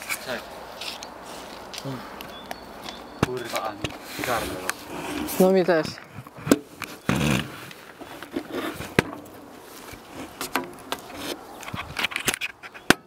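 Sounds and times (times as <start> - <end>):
camera handling rustling and scraping: 0.0 - 13.0.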